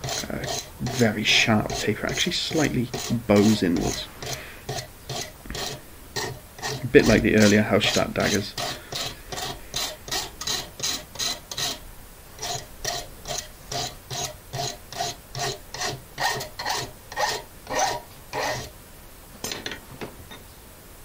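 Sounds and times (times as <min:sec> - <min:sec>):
file rasping on metal blade: 0:00.0 - 0:11.8, 0:12.4 - 0:18.7.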